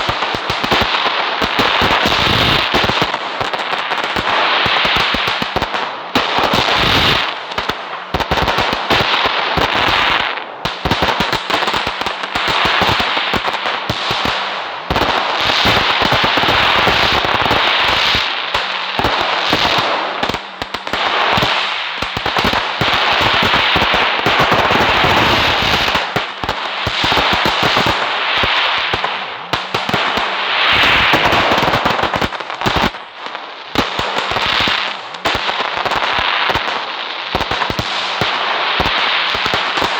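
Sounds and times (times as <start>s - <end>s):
fireworks crackling: 0.0s - 39.9s.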